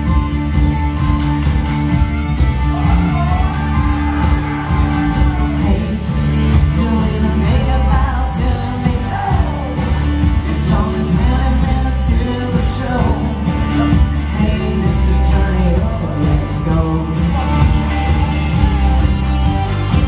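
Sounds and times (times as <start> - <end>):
song with singer and heavy bass: 0.0 - 20.0.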